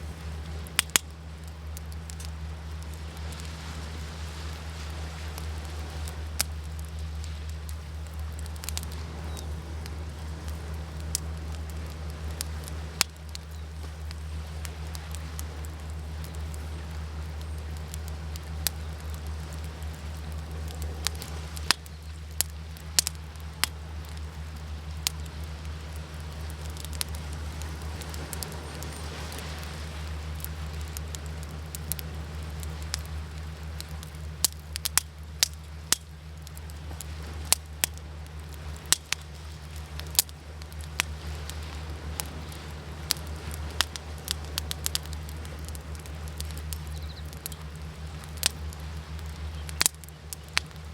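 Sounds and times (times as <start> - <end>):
campfire crackling and popping: 0.0 - 50.9
ocean waves rumbling: 0.0 - 50.9.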